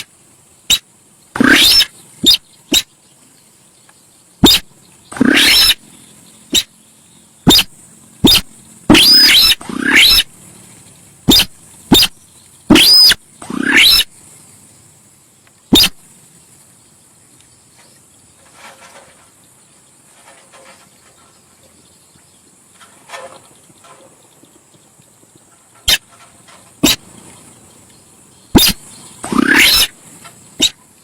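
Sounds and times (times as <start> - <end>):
bird calls: 0.0 - 14.8, 15.7 - 16.6, 17.3 - 31.0
steady high hiss: 0.0 - 31.0.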